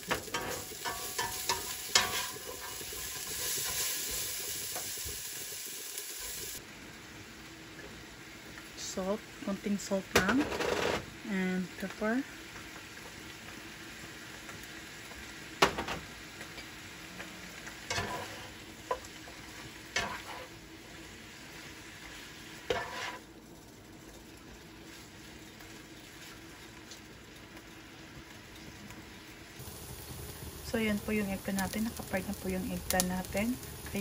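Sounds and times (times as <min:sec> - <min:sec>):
vegetables sizzling in frying pan: 0:00.0 - 0:34.0.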